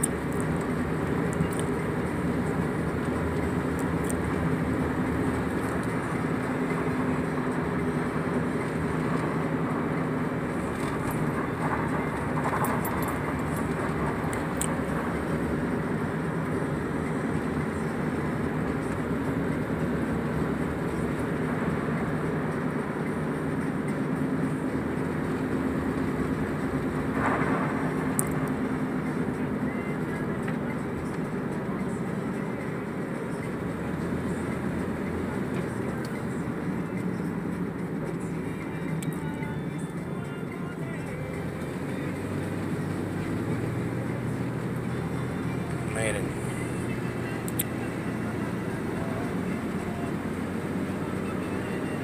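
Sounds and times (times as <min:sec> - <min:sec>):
vehicle engine and road noise: 0:00.0 - 0:52.0.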